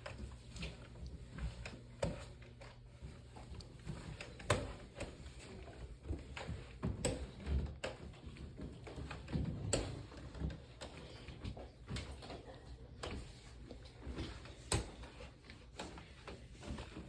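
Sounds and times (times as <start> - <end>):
footsteps on hard floor: 0.0 - 17.0.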